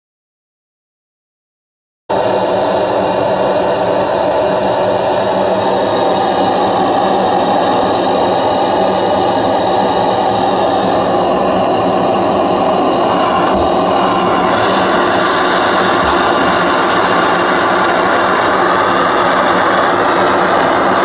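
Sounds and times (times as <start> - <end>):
gas burner flame rushing: 2.1 - 21.0.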